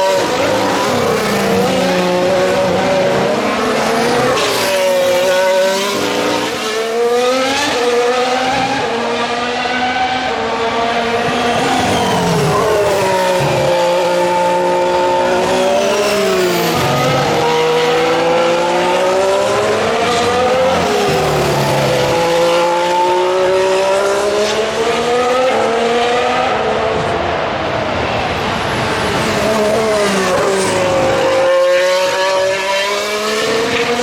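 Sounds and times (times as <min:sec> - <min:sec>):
racing car engines passing: 0:00.0 - 0:34.0.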